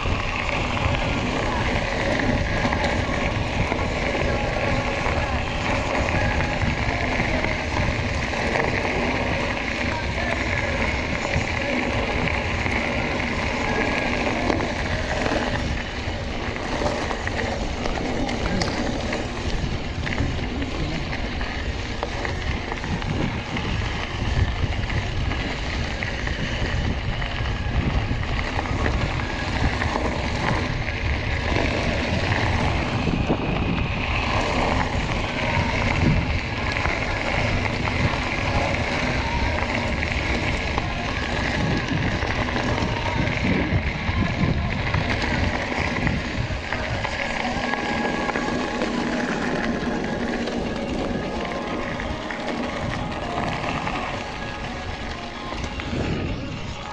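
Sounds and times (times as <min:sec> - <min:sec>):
bike tyres crunching on gravel: 0:00.0 - 0:56.9
wind buffeting microphone: 0:00.0 - 0:56.9.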